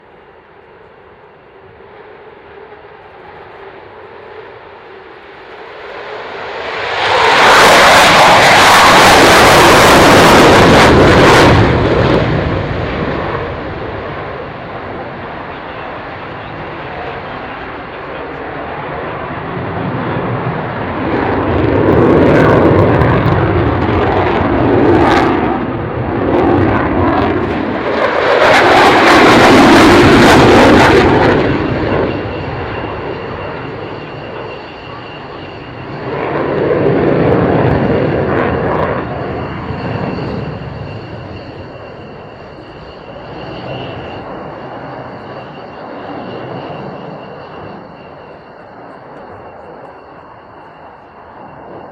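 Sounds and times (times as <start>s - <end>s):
jet engine roar: 0.0s - 51.9s.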